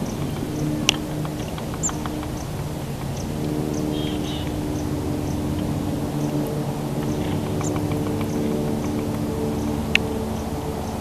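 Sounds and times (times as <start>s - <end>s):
steady low hum: 0.0s - 11.0s
woodpecker tapping on wood: 0.0s - 11.0s.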